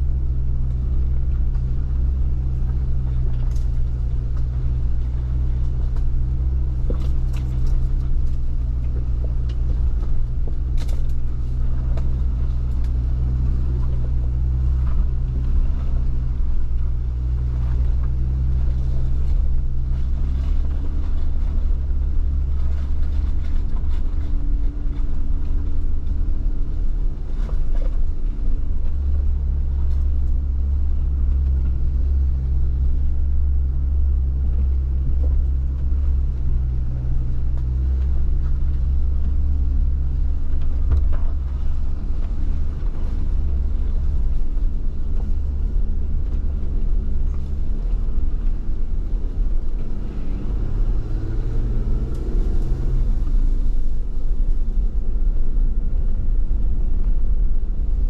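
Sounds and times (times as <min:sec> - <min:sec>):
engine rumbling: 0:00.0 - 0:58.0
faint engine knocks: 0:00.0 - 0:58.0.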